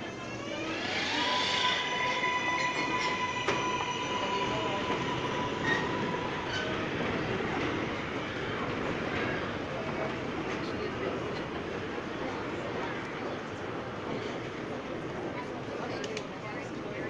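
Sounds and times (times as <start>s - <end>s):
subway train motors whining: 0.0s - 17.0s
wheels rumbling on rail: 0.0s - 17.0s.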